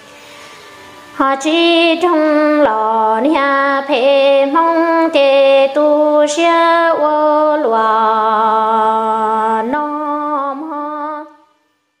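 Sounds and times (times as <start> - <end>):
person singing long held notes: 0.0 - 11.6.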